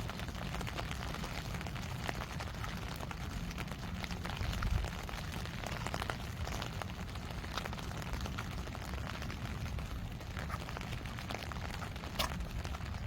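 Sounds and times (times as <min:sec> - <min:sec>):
raindrops tapping: 0:00.0 - 0:13.0.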